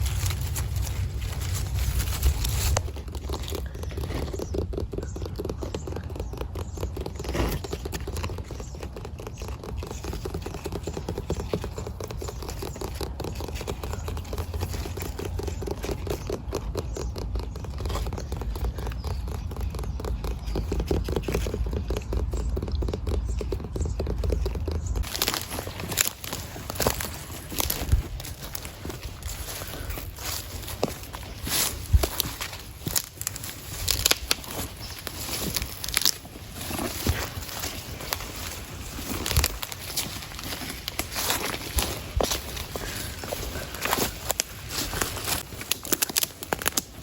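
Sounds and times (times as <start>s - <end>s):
rapid scratching and rustling: 0.0s - 47.0s.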